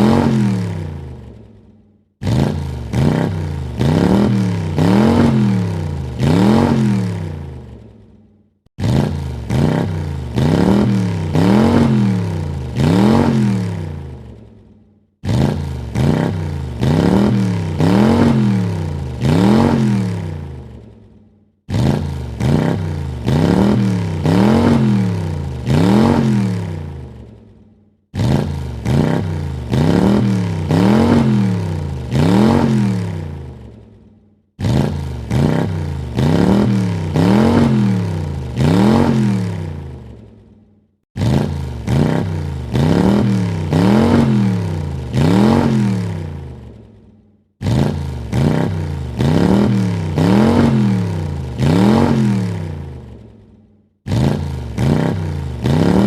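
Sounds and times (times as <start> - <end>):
car engine revving: 0.0 - 1.5, 2.2 - 7.9, 8.8 - 14.4, 15.2 - 20.9, 21.7 - 27.4, 28.1 - 33.8, 34.6 - 40.2, 41.2 - 46.8, 47.6 - 53.3, 54.1 - 56.0.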